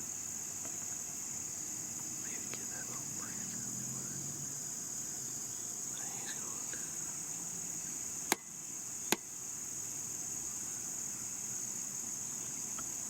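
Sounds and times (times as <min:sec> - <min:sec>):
crickets and insects chirring: 0:00.0 - 0:13.0.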